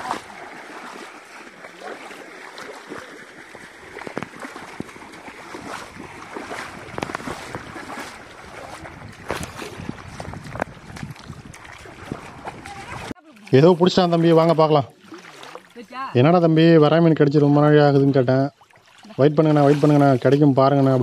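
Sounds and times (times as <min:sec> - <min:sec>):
people wading through water: 0:00.0 - 0:21.0.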